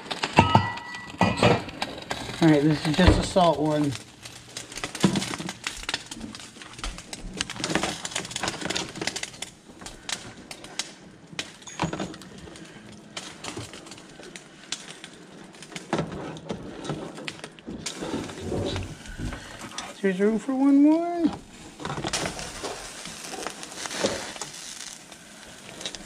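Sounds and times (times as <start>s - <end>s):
boiling water bubbling: 0.0s - 20.3s, 20.9s - 26.0s.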